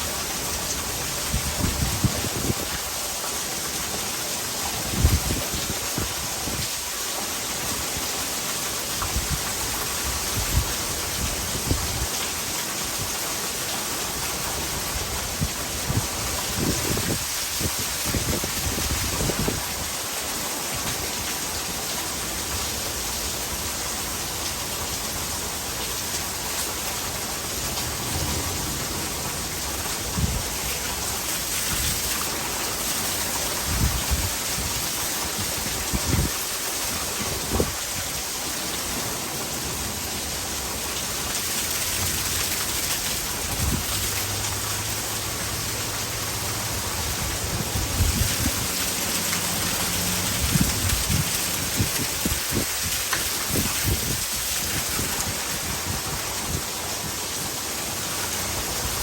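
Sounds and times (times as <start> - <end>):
heavy rain pouring: 0.0 - 59.0
water running into gutter: 0.0 - 59.0.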